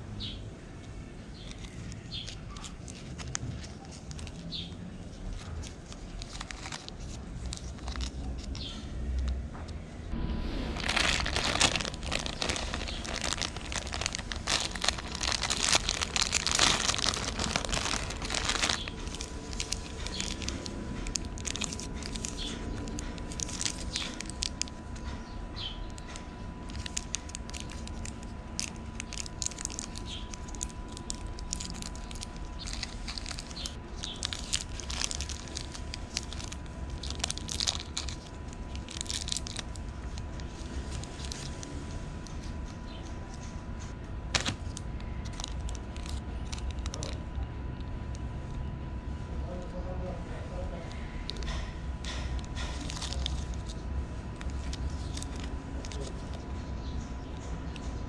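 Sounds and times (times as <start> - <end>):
plastic wrapper crinkling and tearing: 1.3 - 9.4, 10.7 - 25.2, 25.8 - 47.9, 51.2 - 58.0.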